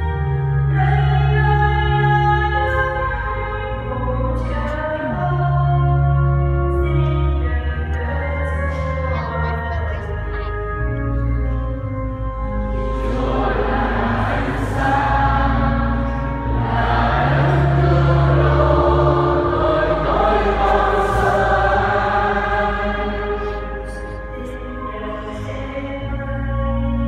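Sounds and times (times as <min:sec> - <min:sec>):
choir singing church music: 0:00.0 - 0:09.2, 0:10.5 - 0:27.0.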